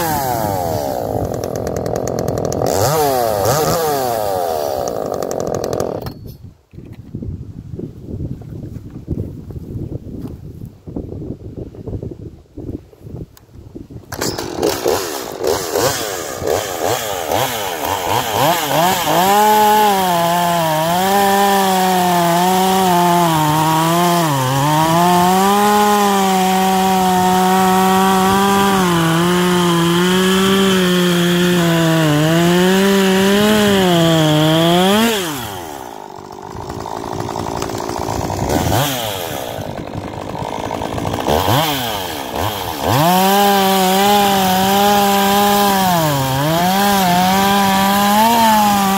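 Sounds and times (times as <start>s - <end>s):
chainsaw cutting log: 0.0s - 6.3s, 14.1s - 48.9s.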